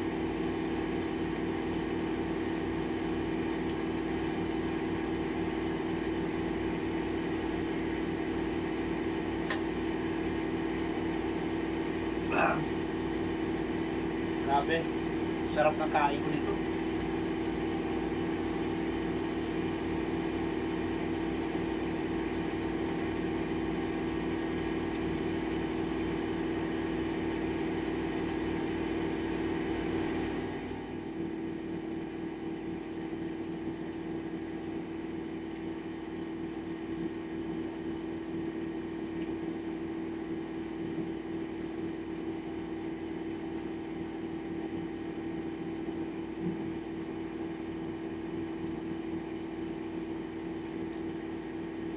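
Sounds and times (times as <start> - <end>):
machine hum with low tone: 0.0 - 51.9.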